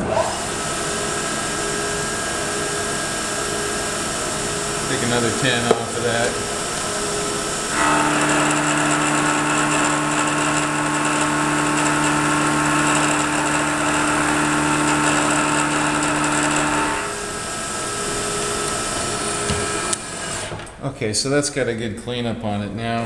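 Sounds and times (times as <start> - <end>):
milling machine cutting whine: 0.0 - 20.8
spindle running: 0.0 - 20.8.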